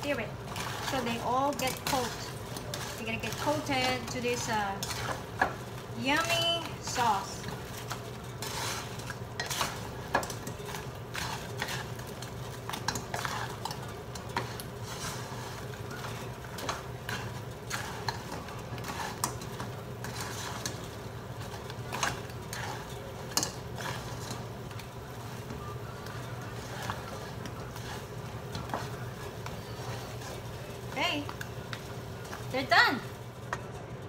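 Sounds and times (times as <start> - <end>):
wooden spatula scraping a wok: 0.0 - 33.8
sauce sizzling: 0.0 - 34.0.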